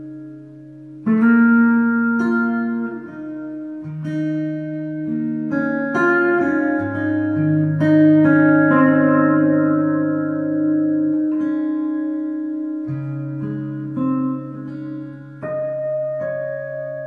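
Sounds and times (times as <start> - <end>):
fingerpicked acoustic guitar: 0.0 - 17.0.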